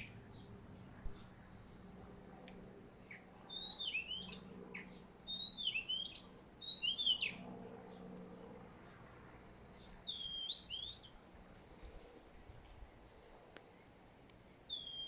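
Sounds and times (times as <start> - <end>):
faint low hum: 0.0 - 15.0
songbird singing: 0.0 - 15.0.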